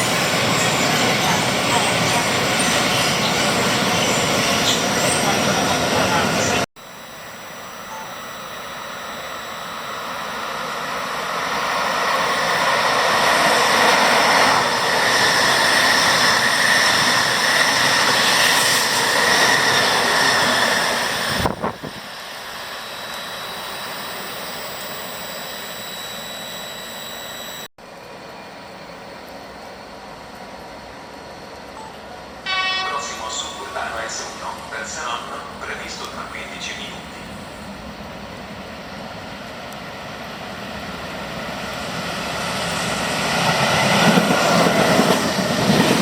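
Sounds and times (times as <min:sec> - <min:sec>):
electric train passing: 0:00.0 - 0:46.0.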